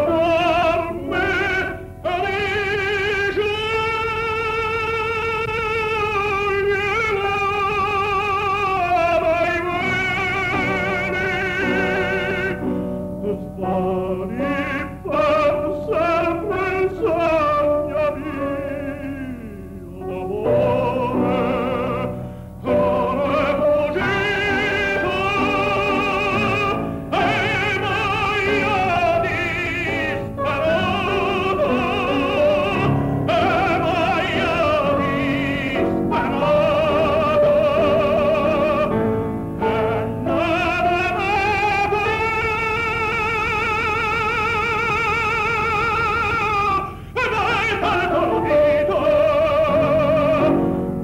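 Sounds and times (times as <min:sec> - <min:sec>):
operatic singing with vibrato: 0:00.0 - 0:51.0.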